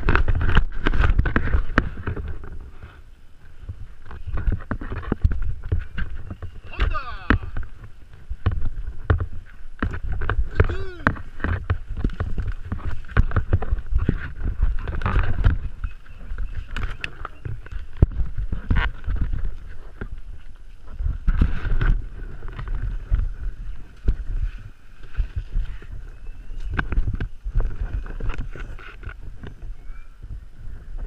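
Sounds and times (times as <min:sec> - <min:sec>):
rustling through brush: 0:00.0 - 0:31.0.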